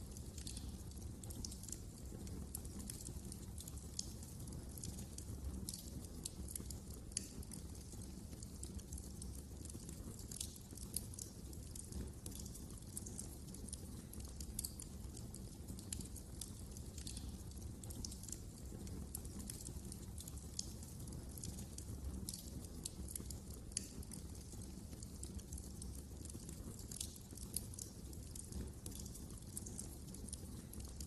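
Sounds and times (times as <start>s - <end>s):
low rumble of burning: 0.0s - 31.0s
wood fire crackling: 0.0s - 31.0s.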